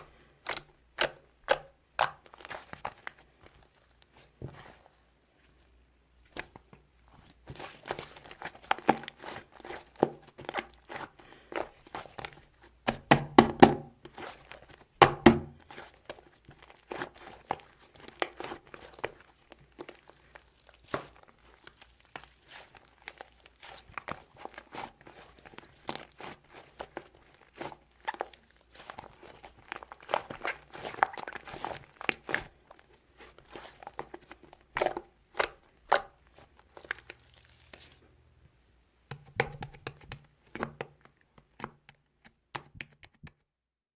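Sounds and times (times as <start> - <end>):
dough squeezed and torn by hand: 0.0 - 5.0, 6.2 - 43.6.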